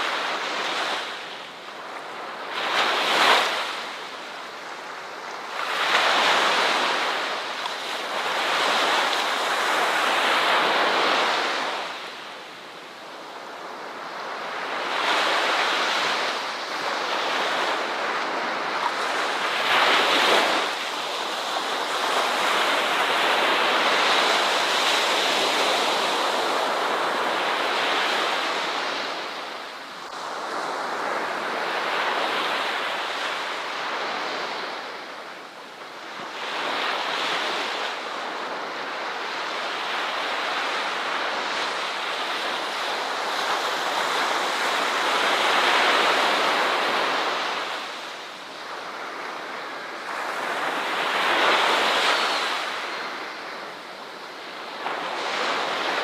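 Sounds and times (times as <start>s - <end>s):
waves washing onto shore: 0.0s - 56.0s.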